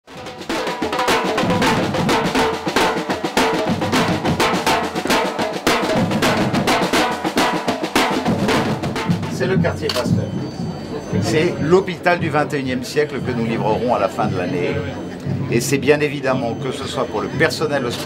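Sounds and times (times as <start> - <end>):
snare and bass drums playing: 0.1 - 17.6.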